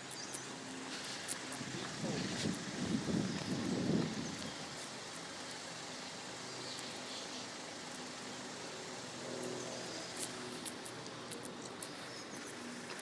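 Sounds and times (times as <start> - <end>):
faint road traffic: 0.0 - 13.0
low engine hum: 0.0 - 13.0.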